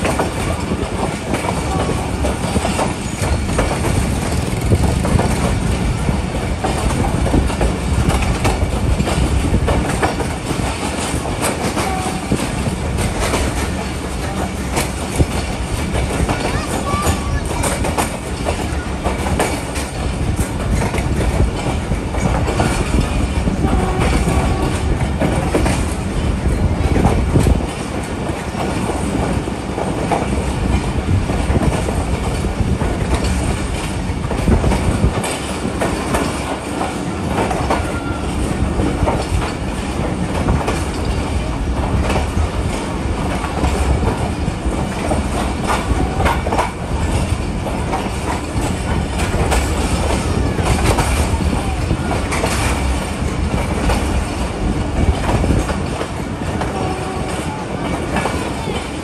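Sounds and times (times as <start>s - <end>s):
train rumbling on rails: 0.0s - 59.0s
wheels clacking over rail joints: 0.0s - 59.0s.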